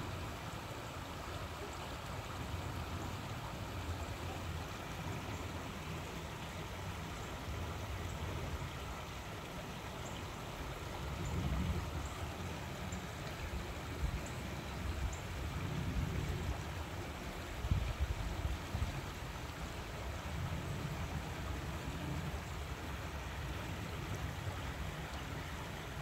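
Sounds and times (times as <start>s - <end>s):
water running over rocks: 0.0s - 26.0s.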